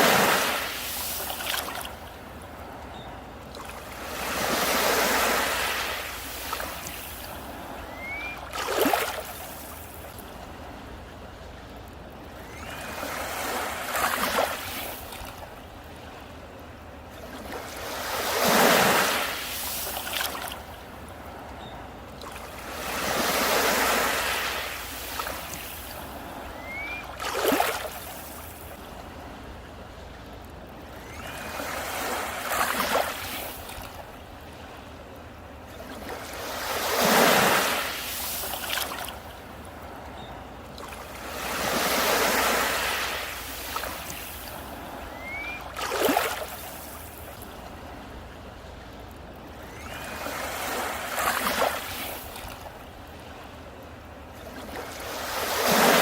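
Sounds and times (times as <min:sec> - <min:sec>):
sea waves breaking on a beach: 0:00.0 - 0:56.0.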